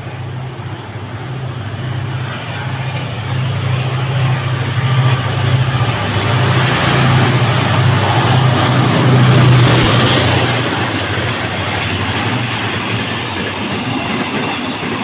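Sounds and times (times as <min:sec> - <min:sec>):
diesel locomotive engine hum: 0:00.0 - 0:15.0.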